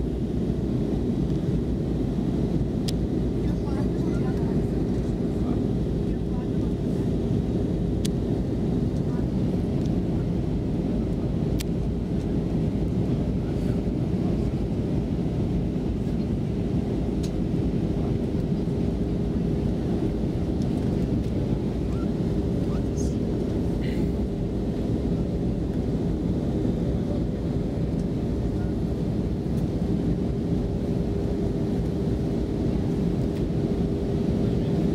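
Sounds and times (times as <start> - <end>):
aircraft cabin engine rush: 0.0 - 34.9.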